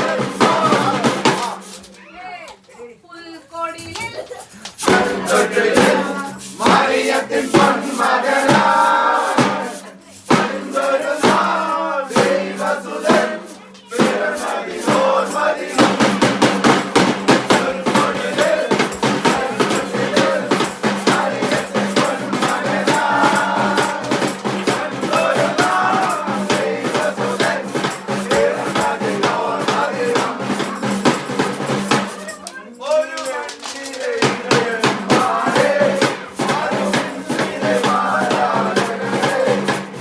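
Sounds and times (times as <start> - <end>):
group singing a carol: 0.0 - 1.9, 4.6 - 40.0
drum beat: 0.0 - 2.0, 3.7 - 32.6, 33.8 - 40.0.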